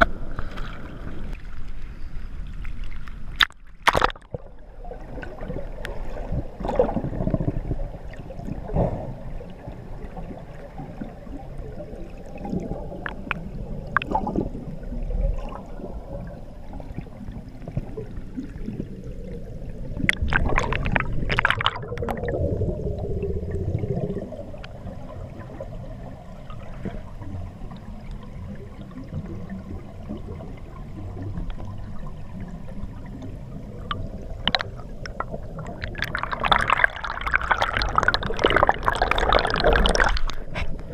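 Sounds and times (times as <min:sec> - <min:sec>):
underwater air bubbles gurgling: 0:02.4 - 0:40.9.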